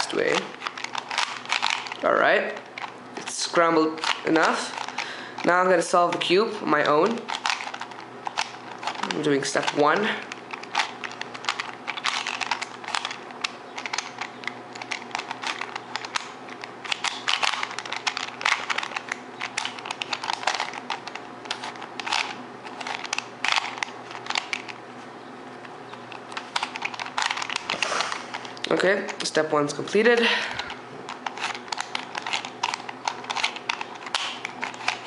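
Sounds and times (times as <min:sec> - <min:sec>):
puzzle cube plastic clicks: 0:00.3 - 0:02.1, 0:04.0 - 0:24.8, 0:25.9 - 0:29.3, 0:30.6 - 0:35.0.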